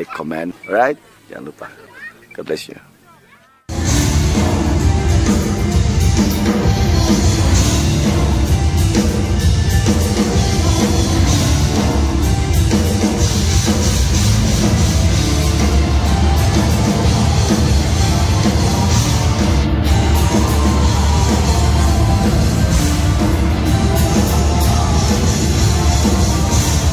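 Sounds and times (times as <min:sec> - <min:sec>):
live rock band playing: 0:03.7 - 0:26.9
pounding drum kit: 0:03.7 - 0:26.9.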